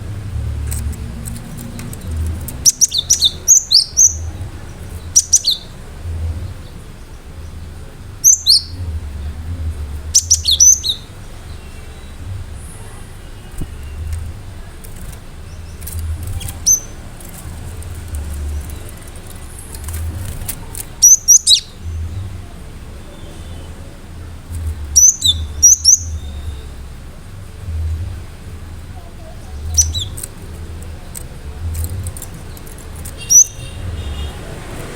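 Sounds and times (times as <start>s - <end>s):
bird singing high rapid notes: 0.0s - 34.9s
steady low hum: 0.0s - 34.9s.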